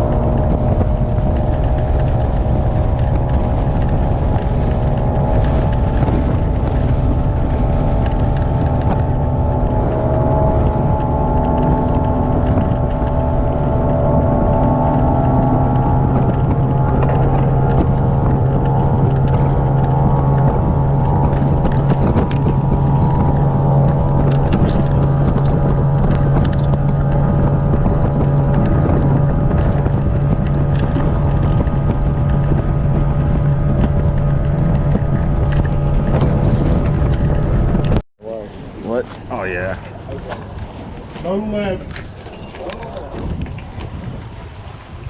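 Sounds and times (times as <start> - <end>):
outboard motor running: 0.0 - 45.0
wind buffeting microphone: 0.0 - 45.0.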